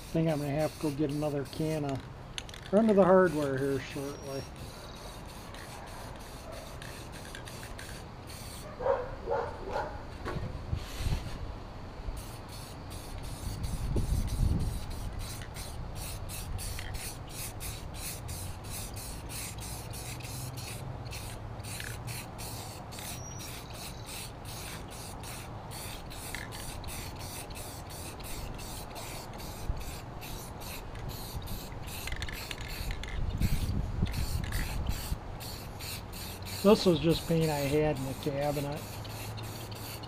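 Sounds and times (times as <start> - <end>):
spray can hissing: 0.0 - 8.7, 12.2 - 40.0.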